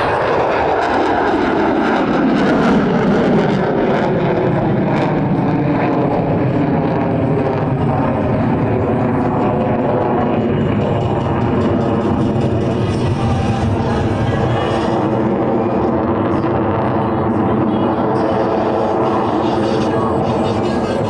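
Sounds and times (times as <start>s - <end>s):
jet roar overhead: 0.0s - 21.0s.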